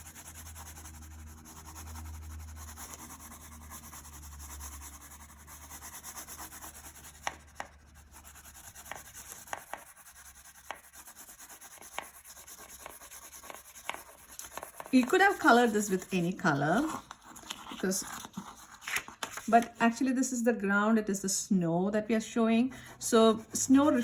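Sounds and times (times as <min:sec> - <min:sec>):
crayon rubbing on paper: 0:00.0 - 0:19.8, 0:22.9 - 0:24.0.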